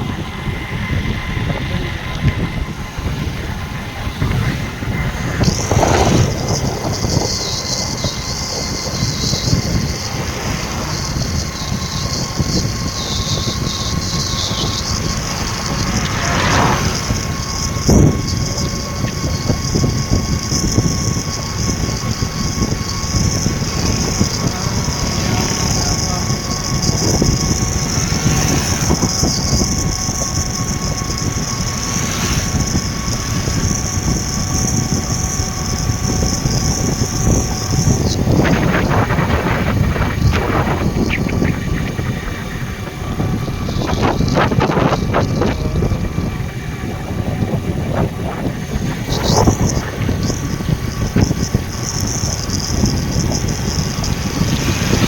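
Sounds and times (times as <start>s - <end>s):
faint steady whine: 0.0s - 55.0s
vehicle running rumble and hiss: 0.0s - 55.0s.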